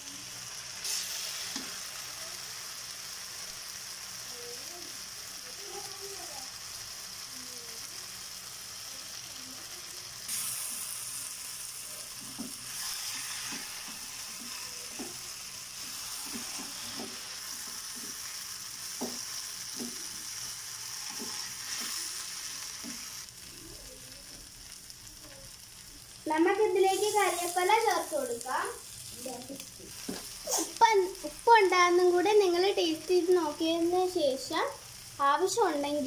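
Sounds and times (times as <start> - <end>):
food sizzling in a pan: 0.0 - 36.0.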